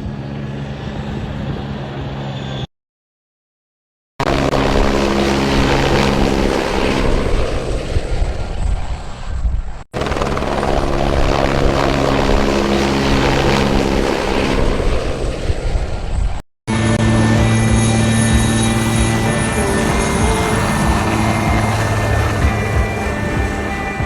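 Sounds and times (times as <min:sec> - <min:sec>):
helicopter rotor and engine drone: 0:00.0 - 0:02.7, 0:04.2 - 0:24.0.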